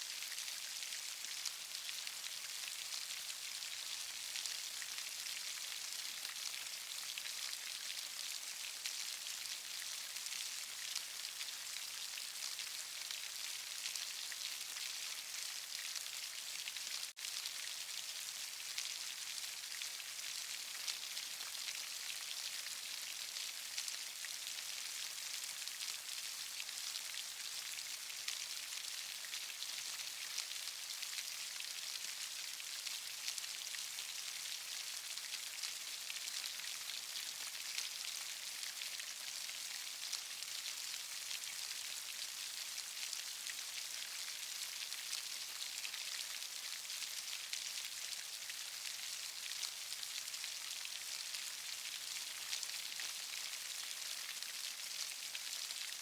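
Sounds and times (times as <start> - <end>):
rain falling steadily: 0.0 - 56.0.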